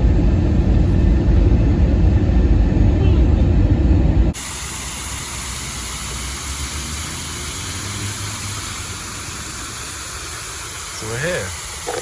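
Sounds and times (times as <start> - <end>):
vehicle traffic: 0.0 - 12.0.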